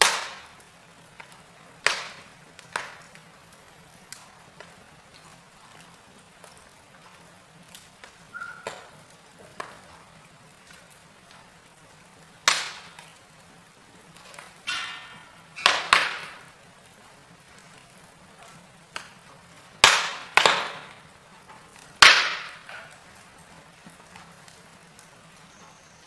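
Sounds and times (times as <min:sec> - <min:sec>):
faint steady hiss: 0:00.0 - 0:26.0
wood fire crackling and popping: 0:00.0 - 0:26.0.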